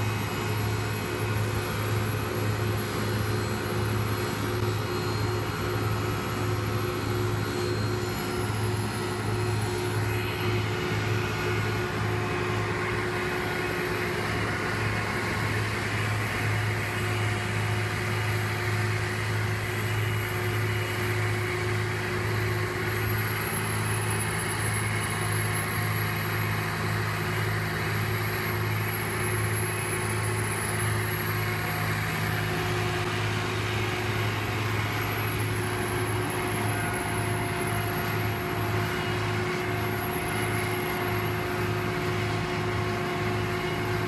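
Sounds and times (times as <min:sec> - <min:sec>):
heavy machinery engine running: 0:00.0 - 0:44.0.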